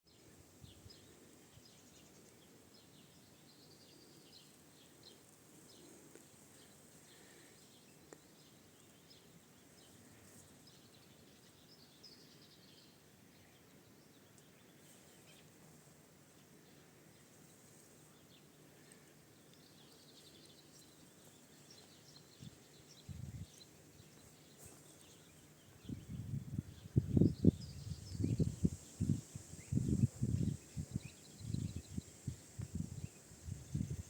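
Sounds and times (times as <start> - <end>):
low background hiss: 0.1 - 34.0
small songbirds chirping: 0.1 - 34.0.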